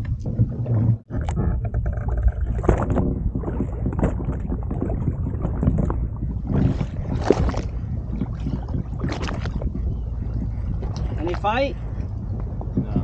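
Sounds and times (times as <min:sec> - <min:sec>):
water: 0:00.0 - 0:13.0
wind rumble on microphone: 0:00.0 - 0:13.0.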